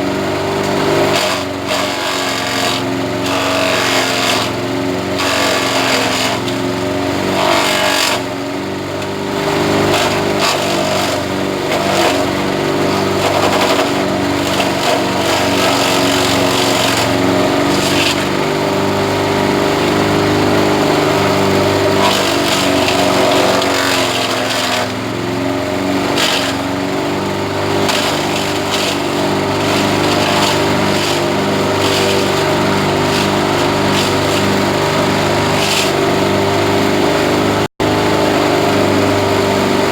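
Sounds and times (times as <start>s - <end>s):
grass chopper engine running: 0.0s - 39.9s.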